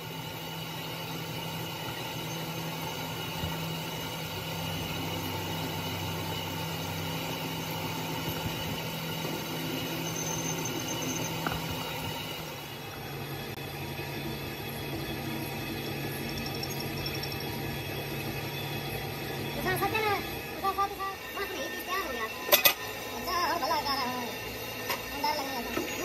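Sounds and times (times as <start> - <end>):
high whining tones: 0.0 - 26.0
workshop machinery humming: 0.0 - 26.0.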